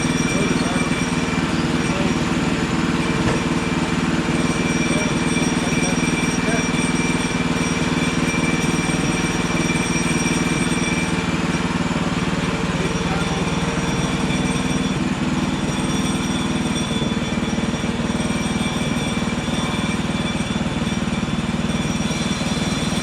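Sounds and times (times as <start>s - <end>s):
band sawmill engine humming: 0.0s - 23.0s
thin high whine: 0.0s - 23.0s.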